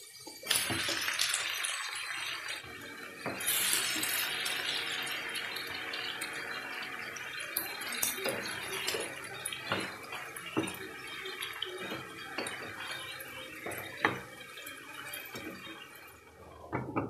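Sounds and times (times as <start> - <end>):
food sizzling in frying pan: 0.0 - 16.4.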